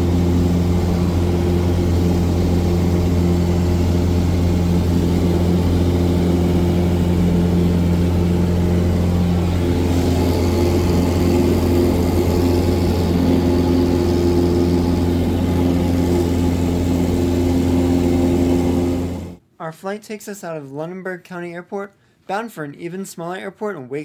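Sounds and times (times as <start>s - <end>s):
light aircraft engine and propeller: 0.0s - 19.4s.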